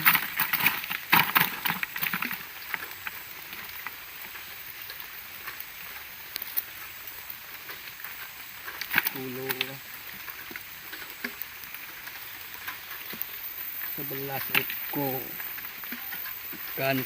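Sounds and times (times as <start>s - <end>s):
light rain: 0.0s - 17.0s
running water hiss: 0.0s - 17.0s
faint clicks and taps: 1.8s - 17.0s.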